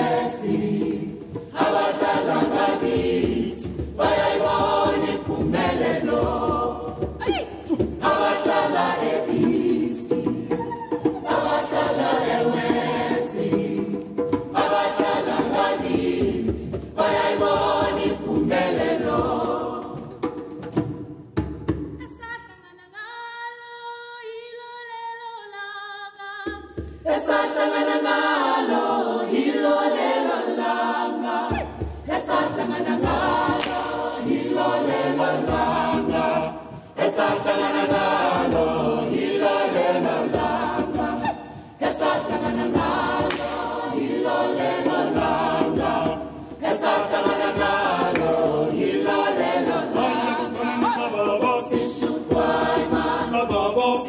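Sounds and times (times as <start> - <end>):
mixed choir singing: 0.0 - 20.8, 27.0 - 54.0.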